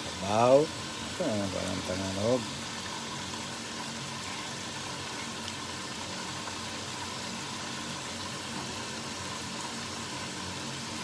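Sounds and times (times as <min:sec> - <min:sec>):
soup boiling and bubbling: 0:00.0 - 0:11.0.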